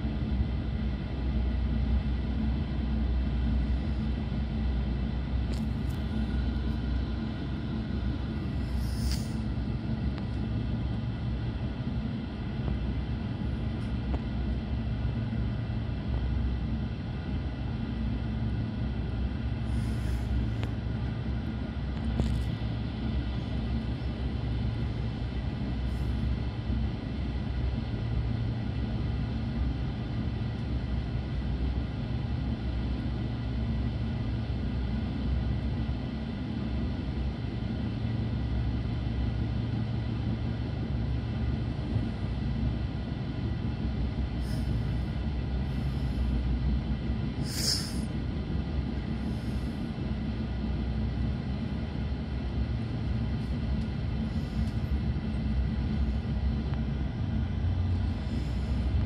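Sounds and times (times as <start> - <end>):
train coach rumbling on track: 0.0 - 59.0.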